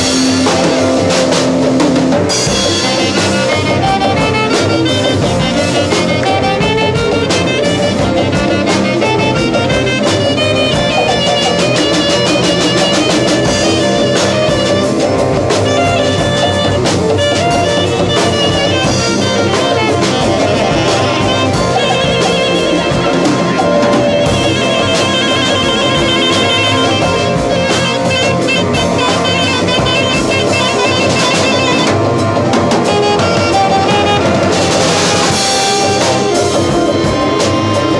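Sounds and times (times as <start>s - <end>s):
drum kit: 0.0s - 37.9s
live band playing: 0.0s - 37.9s
saxophone melody: 0.0s - 37.9s.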